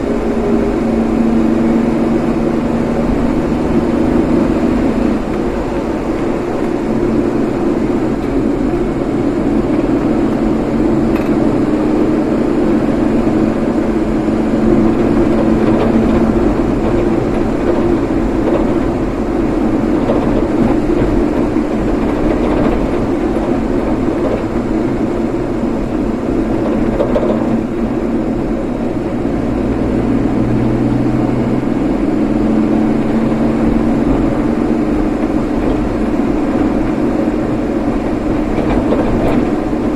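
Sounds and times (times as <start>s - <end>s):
car engine hum: 0.0s - 39.9s
road and tyre noise: 0.0s - 39.9s.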